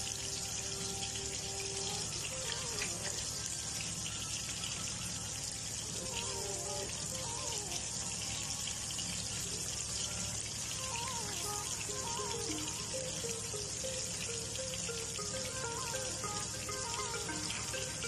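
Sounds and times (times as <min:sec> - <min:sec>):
fish sizzling in hot oil: 0:00.0 - 0:18.0
light background music: 0:00.0 - 0:18.0.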